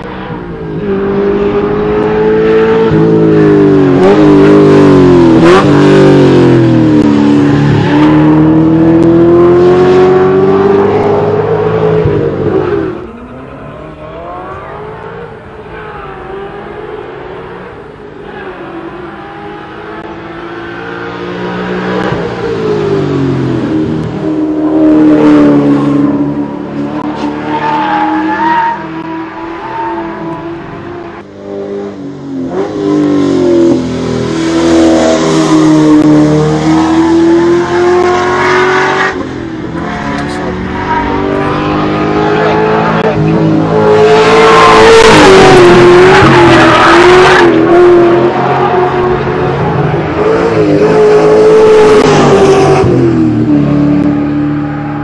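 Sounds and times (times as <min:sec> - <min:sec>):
car engine revving hard: 0:00.0 - 0:17.8, 0:18.5 - 0:55.0.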